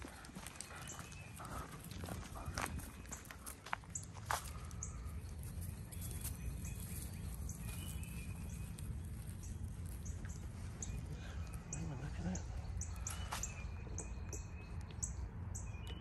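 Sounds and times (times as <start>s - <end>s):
steady low rumble: 0.0s - 16.0s
small bird chirping: 2.7s - 16.0s.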